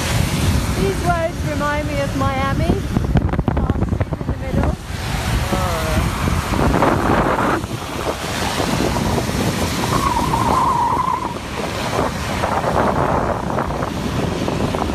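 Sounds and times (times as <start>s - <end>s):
road noise: 0.0s - 14.9s
wind buffeting microphone: 0.0s - 14.9s.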